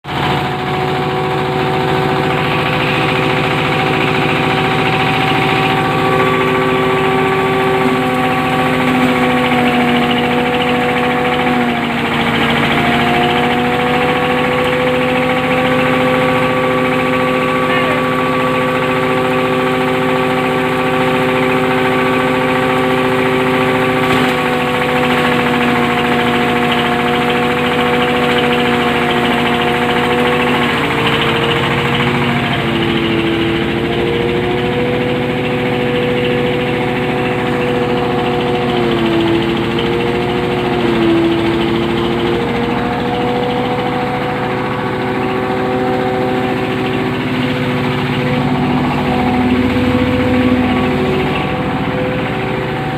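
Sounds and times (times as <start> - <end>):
feed grinder droning hum: 0.0 - 52.9.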